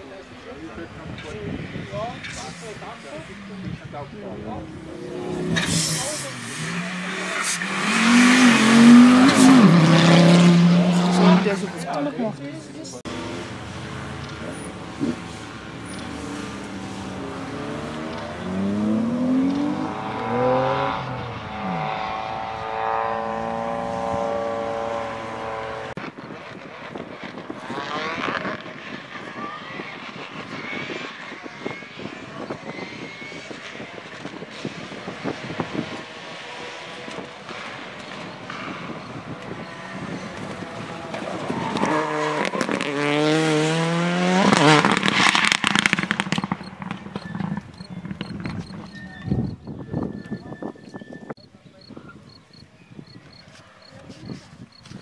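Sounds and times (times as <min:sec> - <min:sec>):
racing car engine revving past: 0:01.6 - 0:11.9, 0:13.0 - 0:26.0, 0:26.9 - 0:48.9
distant racing car climbing: 0:02.0 - 0:31.8, 0:32.5 - 0:51.4.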